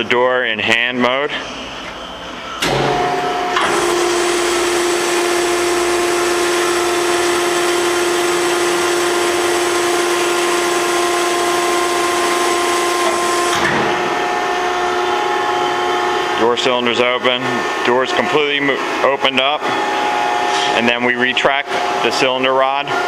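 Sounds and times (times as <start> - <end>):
hydraulic motor and pump whining: 1.4 - 23.0.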